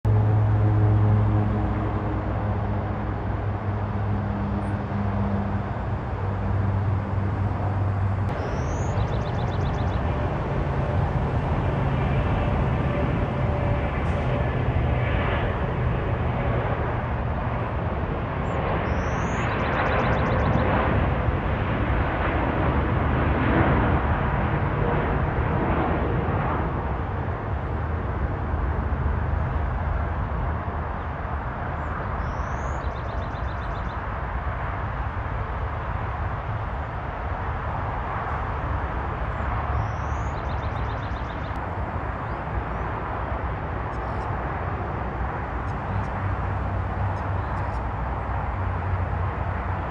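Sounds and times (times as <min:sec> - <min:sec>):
distant aircraft engines rumbling: 0:00.1 - 0:49.9.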